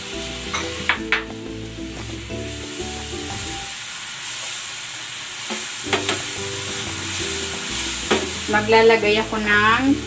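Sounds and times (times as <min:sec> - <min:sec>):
butter sizzling in a frying pan: 0:00.0 - 0:10.0.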